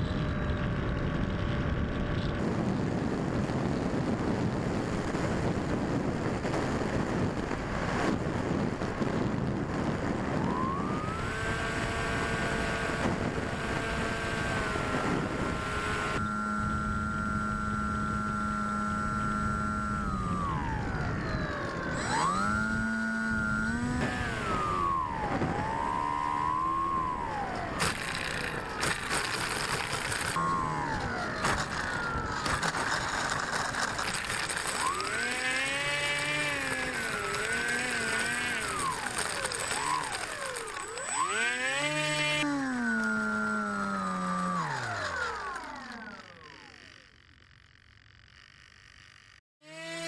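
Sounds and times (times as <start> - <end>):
electric motor and propeller whining: 0.0 - 50.0
rushing and rattling noise: 0.4 - 49.4.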